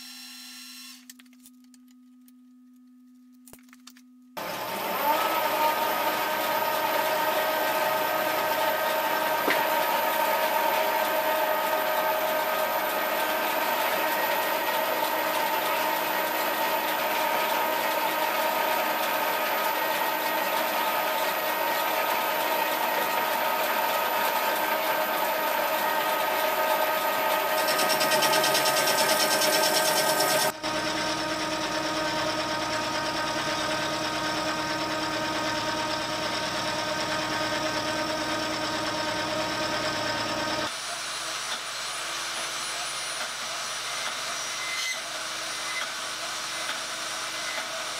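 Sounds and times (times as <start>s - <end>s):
milling machine whining: 4.4s - 47.9s.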